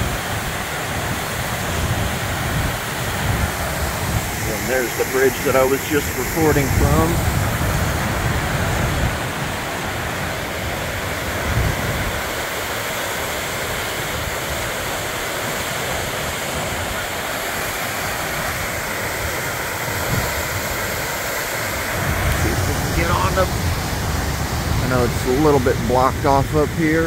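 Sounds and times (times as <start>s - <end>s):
floodwater roaring over spillway: 0.0s - 27.0s.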